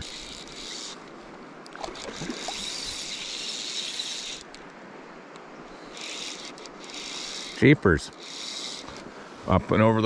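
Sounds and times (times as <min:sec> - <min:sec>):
fly reel drag buzzing: 0:00.0 - 0:04.8, 0:05.8 - 0:09.1
river flow hissing: 0:00.0 - 0:10.0.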